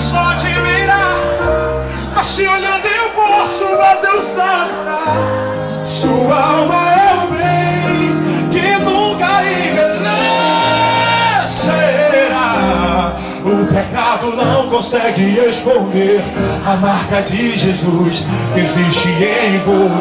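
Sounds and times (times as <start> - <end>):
keyboard accompaniment: 0.0 - 20.0
man singing into a microphone: 0.0 - 20.0.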